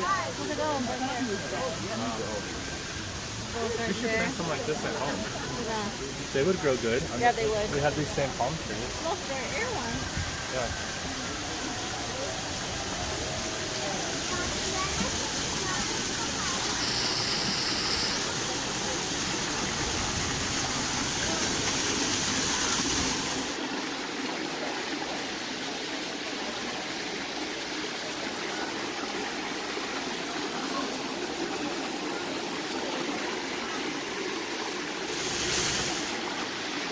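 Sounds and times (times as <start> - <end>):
waterfall splashing over rocks: 0.0 - 36.9.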